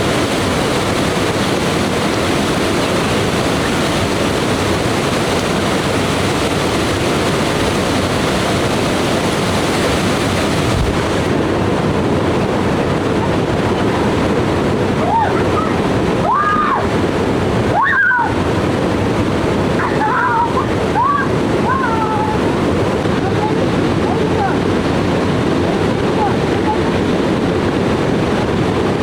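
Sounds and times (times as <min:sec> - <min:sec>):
waterfall and stream rushing: 0:00.0 - 0:29.0.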